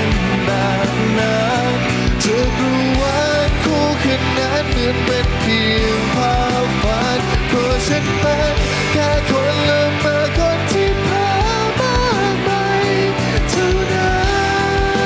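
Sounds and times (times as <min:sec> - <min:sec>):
person singing: 0:00.0 - 0:15.0
pop-rock band playing: 0:00.0 - 0:15.0.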